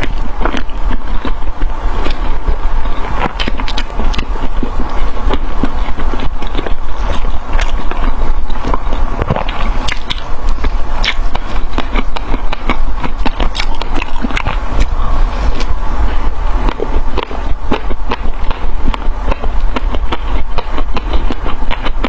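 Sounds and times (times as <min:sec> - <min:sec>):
close-miked crunchy eating: 0:00.0 - 0:22.0
steady low hum: 0:00.0 - 0:22.0.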